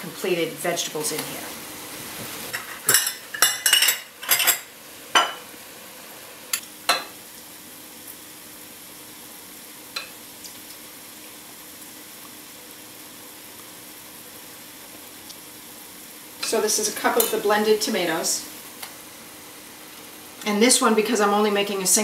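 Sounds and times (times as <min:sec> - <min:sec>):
food sizzling in pots: 0:00.0 - 0:22.0.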